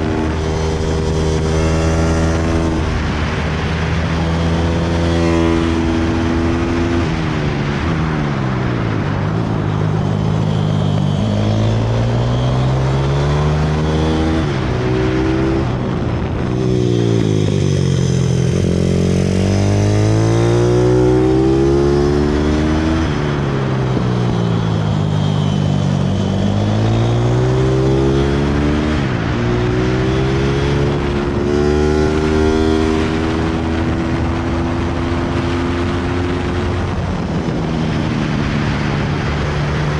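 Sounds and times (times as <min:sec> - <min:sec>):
motorbike engine revving: 0:00.0 - 0:07.9, 0:09.5 - 0:39.9
wind on microphone: 0:00.0 - 0:39.9.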